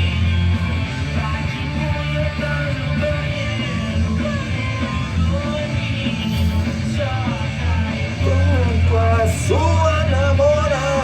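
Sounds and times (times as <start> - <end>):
rock song with band: 0.0 - 11.0
person singing: 1.1 - 11.0.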